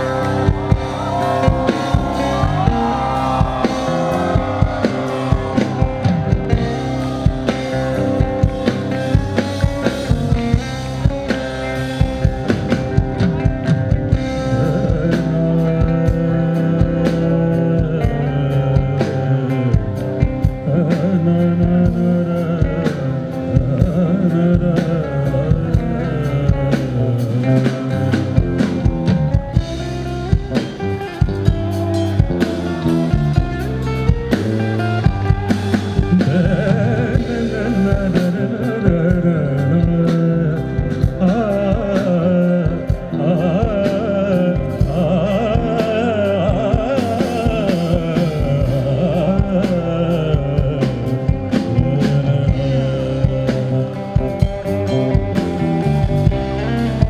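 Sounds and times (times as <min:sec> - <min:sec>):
guitar: 0:00.0 - 0:57.0
person singing: 0:00.0 - 0:57.0
steady drum beat: 0:00.0 - 0:57.0.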